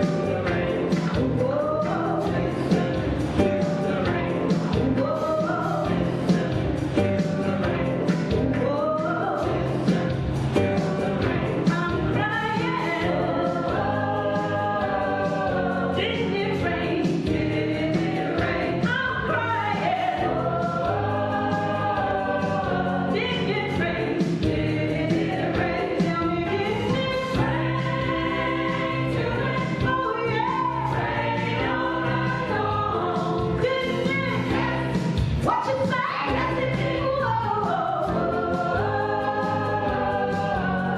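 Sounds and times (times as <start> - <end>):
gospel choir singing: 0.0 - 40.9
instrumental accompaniment: 0.0 - 40.9.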